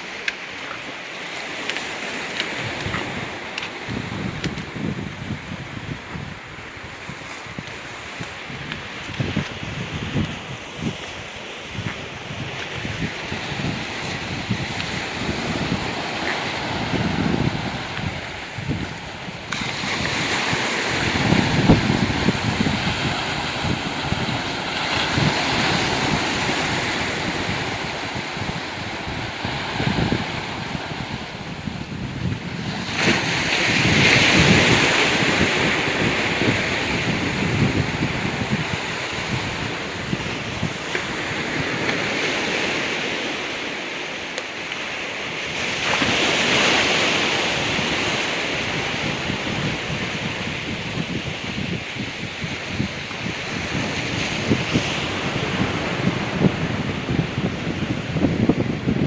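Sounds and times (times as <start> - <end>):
wind buffeting microphone: 0.0 - 44.0, 45.2 - 59.0
ocean waves on shore: 0.0 - 59.0
surf washing over rocks: 0.0 - 59.0.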